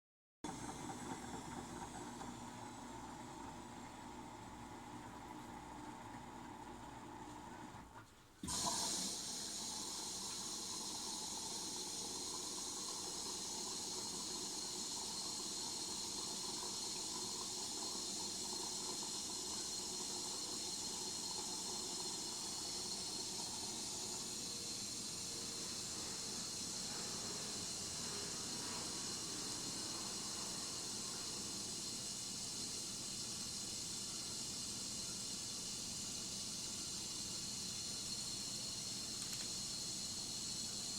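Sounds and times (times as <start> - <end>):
washing machine low hum: 0.4 - 40.9
water hissing into machine: 0.5 - 6.6, 8.4 - 40.9.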